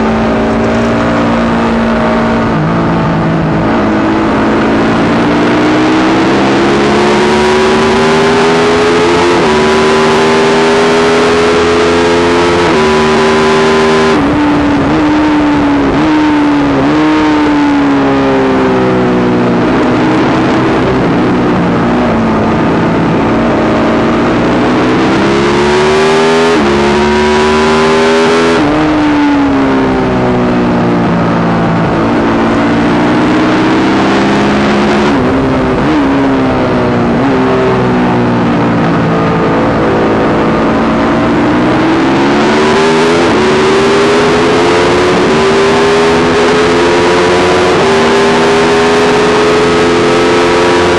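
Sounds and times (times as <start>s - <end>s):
motorcycle engine revving under load: 0.0s - 50.9s.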